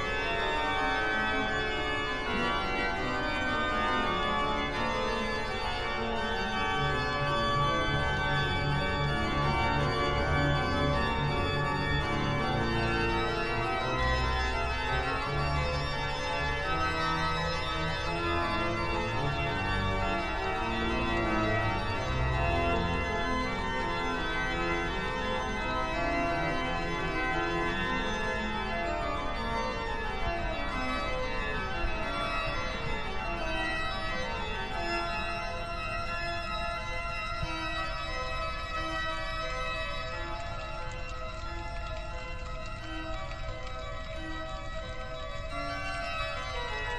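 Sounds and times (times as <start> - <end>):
organ music: 0.0 - 46.9.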